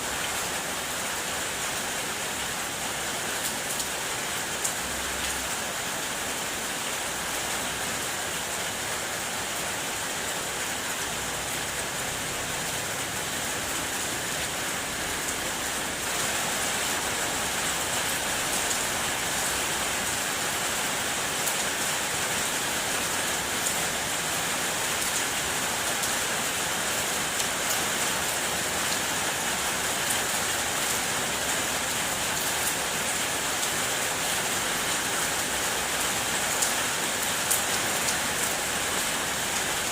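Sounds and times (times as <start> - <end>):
rain on a car body: 0.0 - 39.9.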